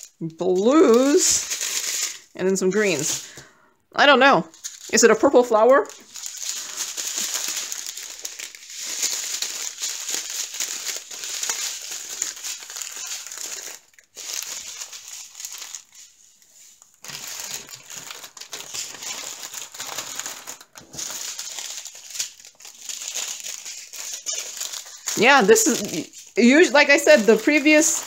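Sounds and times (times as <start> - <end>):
plastic packaging crinkling: 0.0 - 3.4, 4.5 - 28.0.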